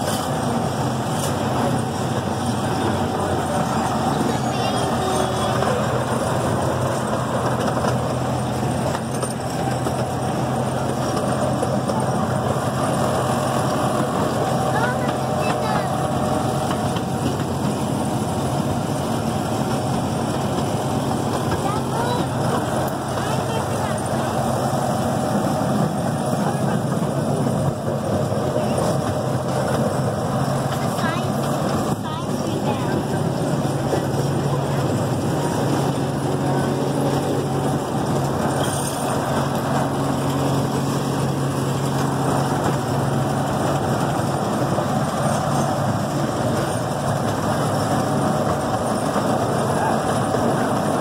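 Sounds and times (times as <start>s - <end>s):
miniature train engine drone: 0.0s - 51.0s
train running noise: 0.0s - 51.0s.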